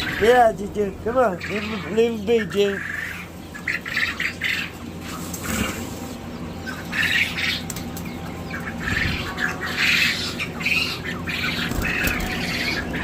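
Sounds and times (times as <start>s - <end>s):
birds giving harsh calls: 0.0s - 13.0s.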